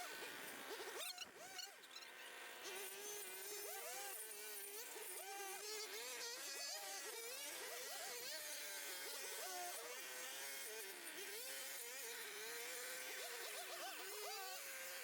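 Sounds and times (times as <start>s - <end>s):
small motor buzzing: 0.0s - 15.0s.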